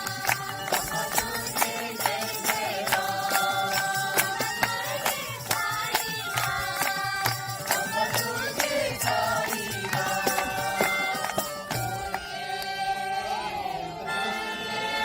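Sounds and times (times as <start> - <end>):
group singing devotional song: 0.0 - 15.0.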